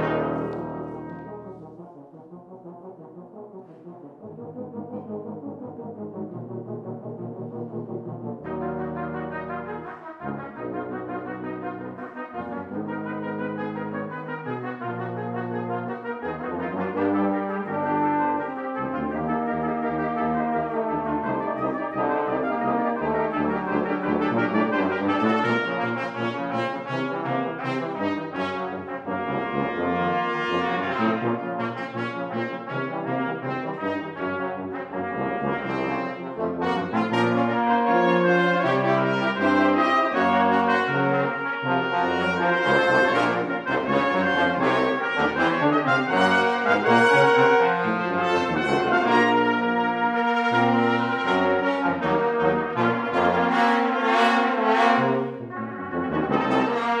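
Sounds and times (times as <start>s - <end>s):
brass quintet playing: 0.0s - 57.0s.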